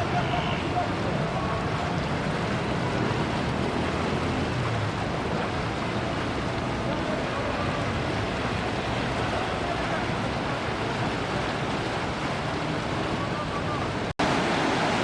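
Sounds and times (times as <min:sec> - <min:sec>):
river rushing in flood: 0:00.0 - 0:15.0.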